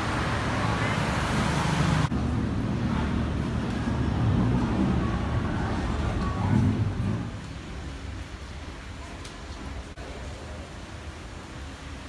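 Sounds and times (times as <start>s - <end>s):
road traffic rumble with hiss: 0.0s - 12.0s.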